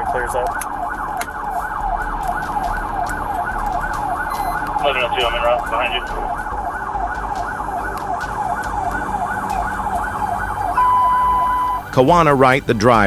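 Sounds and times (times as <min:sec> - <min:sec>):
police siren yelping: 0:00.0 - 0:13.0
steady high tone: 0:00.0 - 0:13.0.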